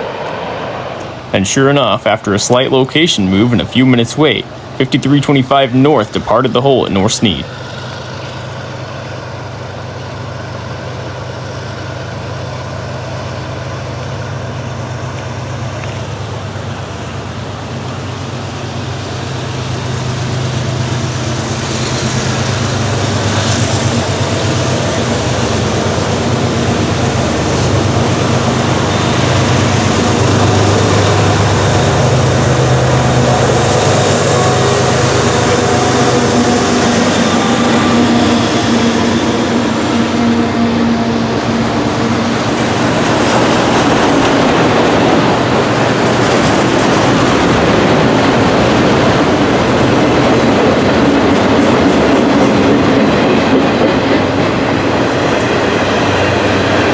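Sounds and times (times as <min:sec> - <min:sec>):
diesel locomotive engines droning: 0:00.0 - 0:56.9.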